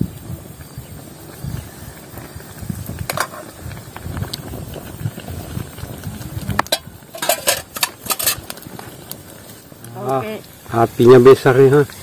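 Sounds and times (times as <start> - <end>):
wind buffeting microphone: 0.0 - 12.0
wood fire crackling: 0.0 - 12.0.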